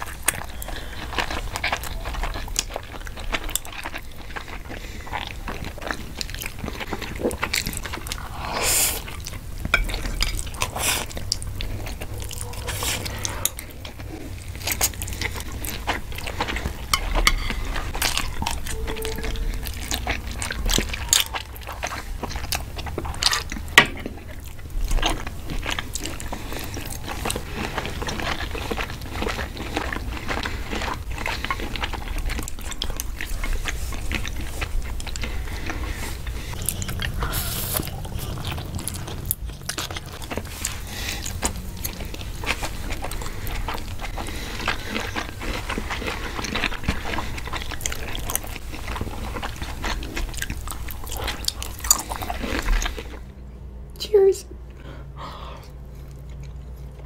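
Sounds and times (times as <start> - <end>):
chewing with wet mouth clicks: 0.0 - 53.2, 55.6 - 57.0.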